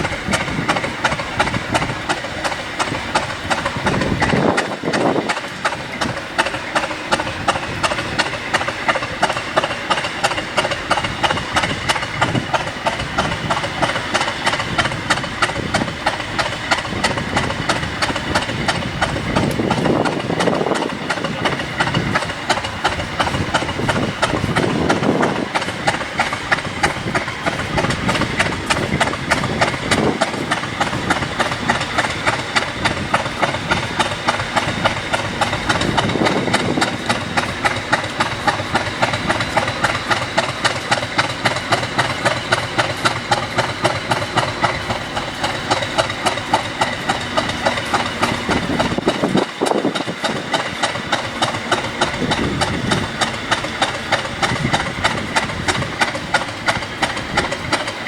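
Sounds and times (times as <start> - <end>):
diesel locomotive engine idling: 0.0 - 58.0.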